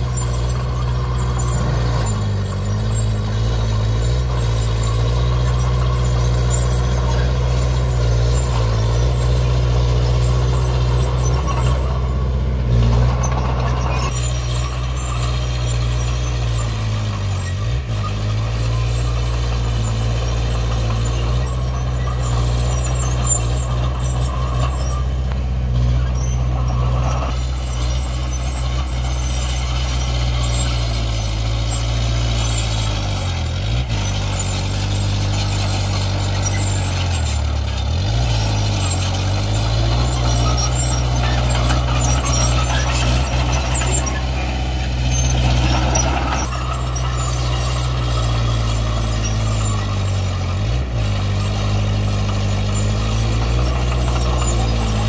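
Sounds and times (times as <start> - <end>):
bulldozer diesel engine running: 0.0 - 55.0
noisy clatter: 0.0 - 55.0.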